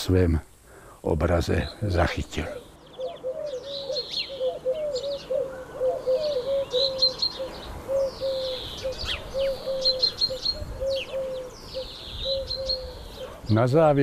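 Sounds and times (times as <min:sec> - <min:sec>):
birds singing: 0:00.7 - 0:14.0.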